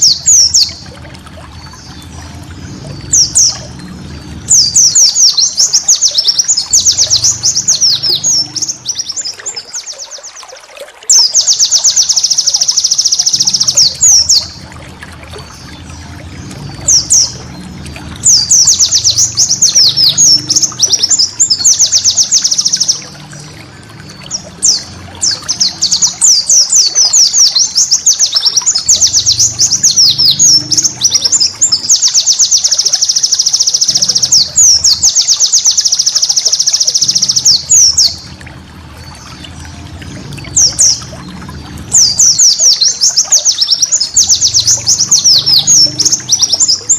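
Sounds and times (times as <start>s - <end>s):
bird twittering rapidly: 0.0s - 0.9s, 1.6s - 14.7s, 15.5s - 38.3s, 41.9s - 46.9s.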